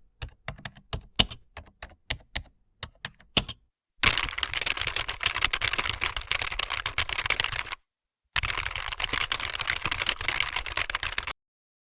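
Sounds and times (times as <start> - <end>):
fast typing on keyboard: 0.1 - 7.8, 8.4 - 11.3.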